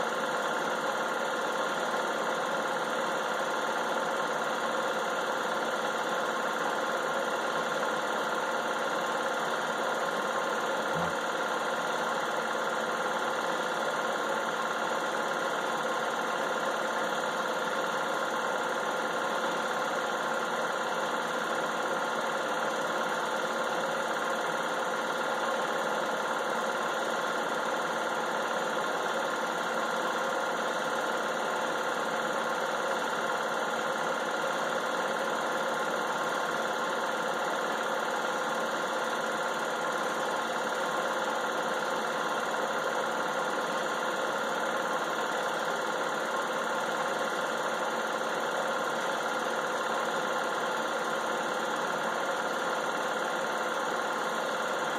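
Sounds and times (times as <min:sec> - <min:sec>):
film projector whirring: 0:00.0 - 0:54.9.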